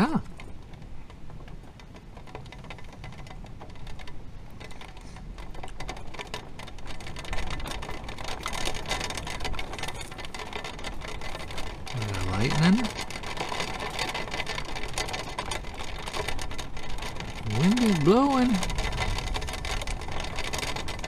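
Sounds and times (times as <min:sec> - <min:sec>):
rain pattering on roof: 0:00.0 - 0:21.0
wind buffeting: 0:00.0 - 0:21.0.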